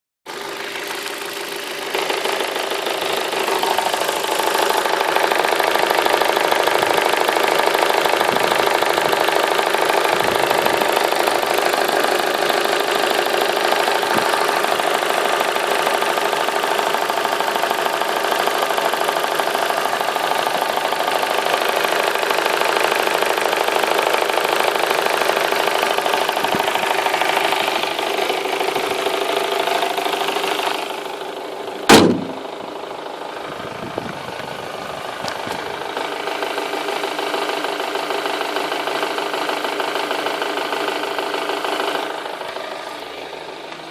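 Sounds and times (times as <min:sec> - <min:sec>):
car engine idling with clatter: 0:00.3 - 0:43.9.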